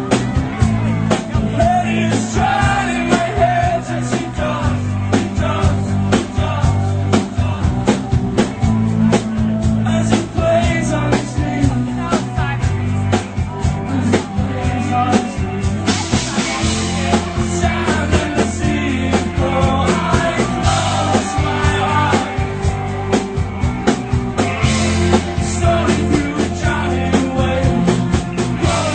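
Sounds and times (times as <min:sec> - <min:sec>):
drum kit beat: 0:00.0 - 0:28.9
rock band playing live: 0:00.0 - 0:28.9.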